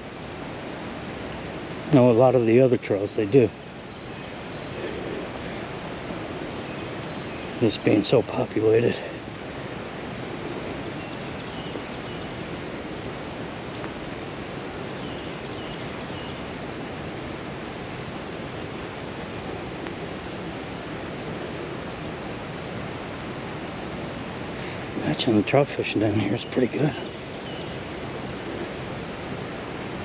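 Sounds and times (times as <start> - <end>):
fast-flowing river water: 0.0 - 30.0.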